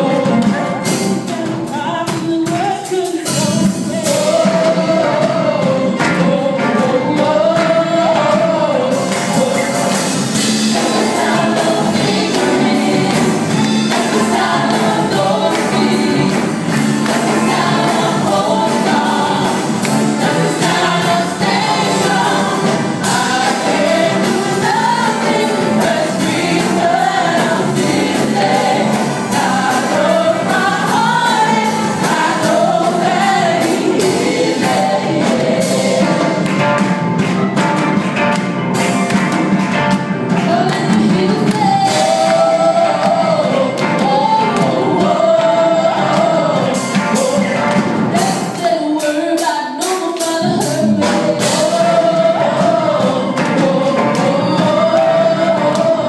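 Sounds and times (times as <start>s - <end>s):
women singing gospel: 0.0s - 36.6s, 40.3s - 56.0s
amplified live band: 0.0s - 56.0s.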